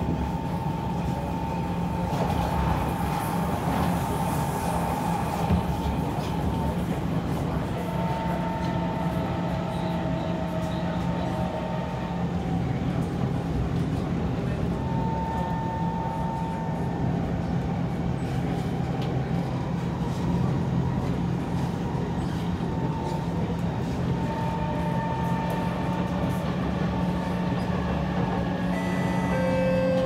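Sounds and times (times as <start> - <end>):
metro train rumble: 0.0 - 30.0.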